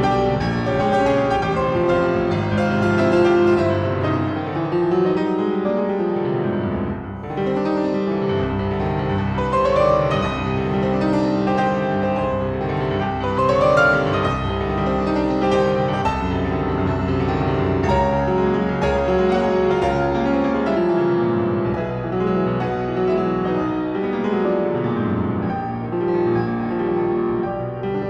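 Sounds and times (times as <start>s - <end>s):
classical piano music: 0.0s - 28.0s.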